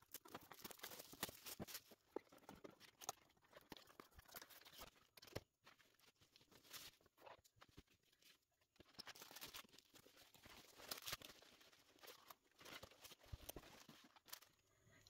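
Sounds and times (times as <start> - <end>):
packaging rustling and crinkling: 0.0 - 14.6.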